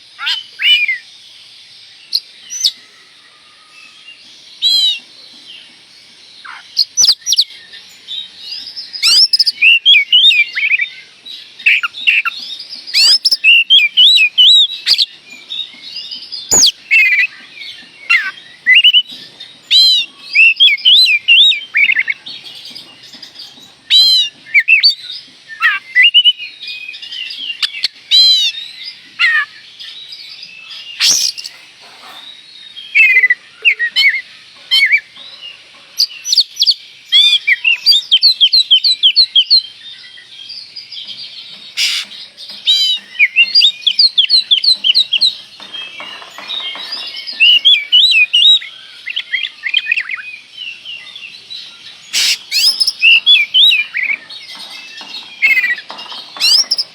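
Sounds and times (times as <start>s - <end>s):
magpie-robin singing: 0.0s - 1.1s, 3.8s - 5.7s, 6.4s - 56.9s.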